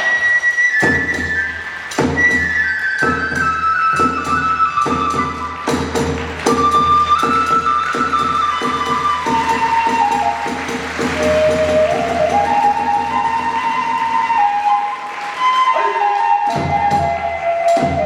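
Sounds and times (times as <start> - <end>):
bamboo flute melody: 0.0 - 18.0
drum beats: 0.0 - 18.0.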